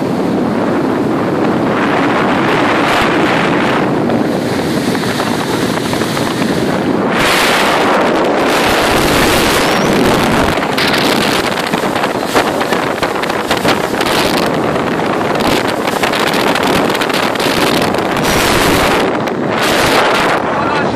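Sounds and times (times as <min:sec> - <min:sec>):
motorboat engine: 0:00.0 - 0:20.9
water rushing in wake: 0:00.0 - 0:20.9
wind buffeting microphone: 0:00.0 - 0:20.9.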